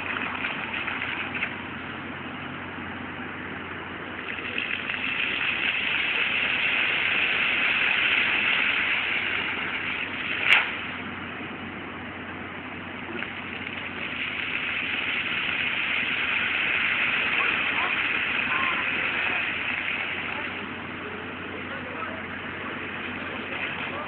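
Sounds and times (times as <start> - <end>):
fountain jets splashing: 0.0 - 24.0.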